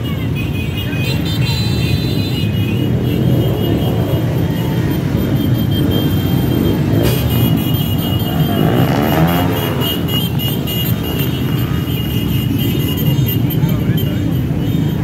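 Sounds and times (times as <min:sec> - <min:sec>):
motorcycles riding past: 0:00.0 - 0:15.0.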